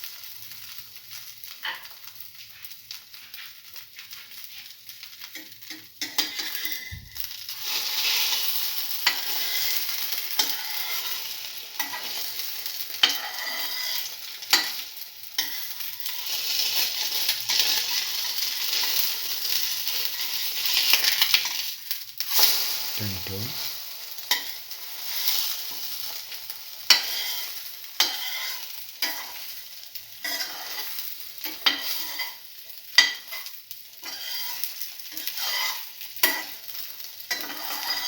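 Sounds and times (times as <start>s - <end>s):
bread sizzling in hot oil: 0.0s - 38.0s.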